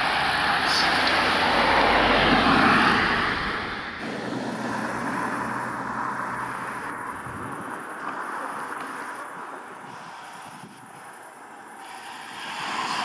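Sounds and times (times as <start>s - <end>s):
bike race rushing past: 0.0s - 13.0s.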